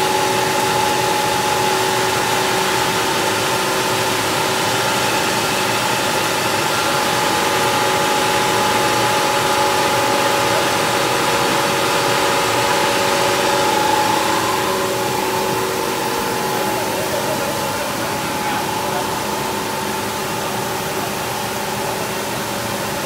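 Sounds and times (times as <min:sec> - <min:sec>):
machinery whining tones: 0:00.0 - 0:23.0
production line machinery drone: 0:00.0 - 0:23.0.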